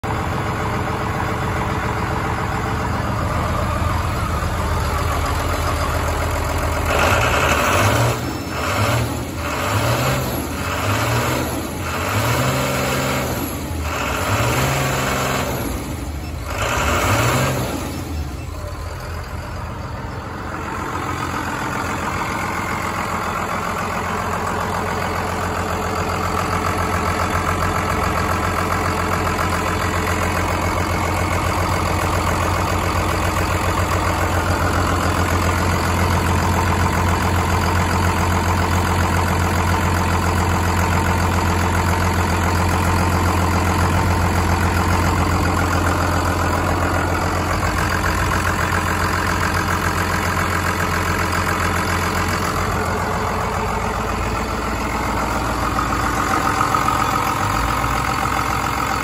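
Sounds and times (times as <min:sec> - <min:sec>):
diesel engine idling and revving: 0:00.0 - 0:59.0.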